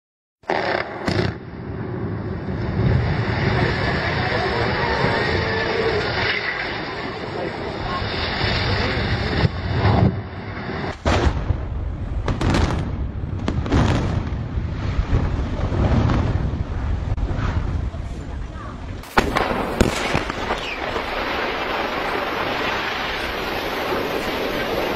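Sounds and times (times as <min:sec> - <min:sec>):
explosive blasts: 0:00.4 - 0:24.9
concrete collapsing rumble: 0:00.5 - 0:24.9.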